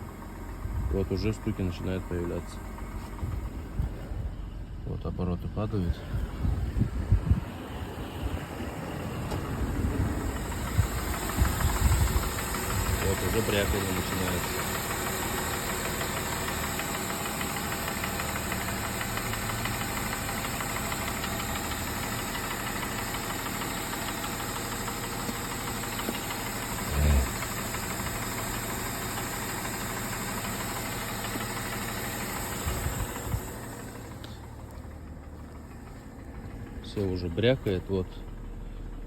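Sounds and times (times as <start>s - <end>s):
car engine idling with knock: 0.0s - 39.0s.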